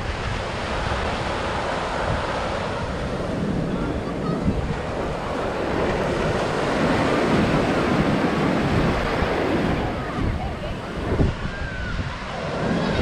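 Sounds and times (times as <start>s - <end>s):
surf washing over sand: 0.0s - 13.0s.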